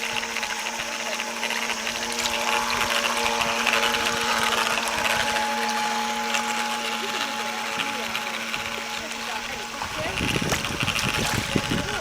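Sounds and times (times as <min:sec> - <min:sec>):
electric motor whining: 0:00.0 - 0:12.0
water hissing in wake: 0:00.0 - 0:12.0.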